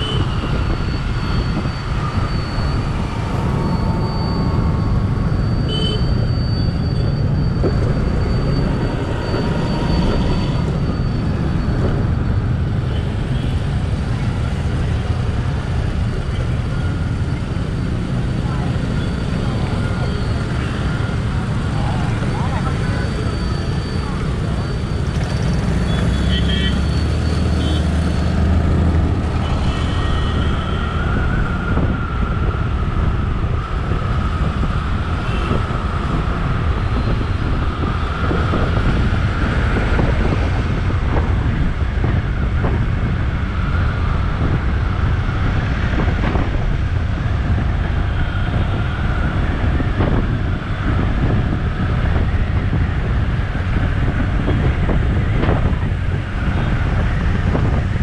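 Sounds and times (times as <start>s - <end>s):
wind rush on microphone: 0.0s - 25.7s, 27.1s - 58.0s
surrounding traffic: 0.0s - 58.0s.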